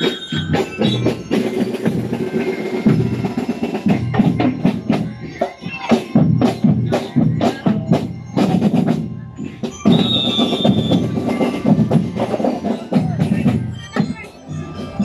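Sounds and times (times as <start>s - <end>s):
snare and bass drums beating: 0.0s - 14.2s.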